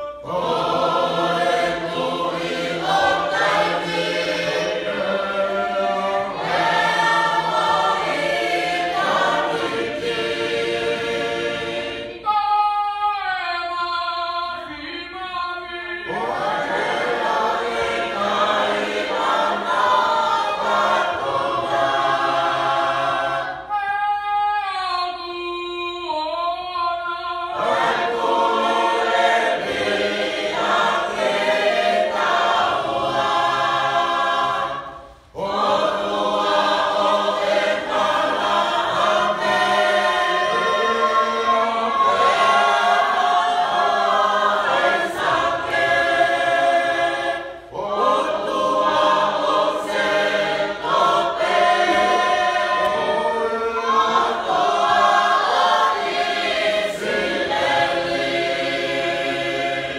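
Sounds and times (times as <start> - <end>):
choir singing a cappella hymn: 0.0 - 59.9.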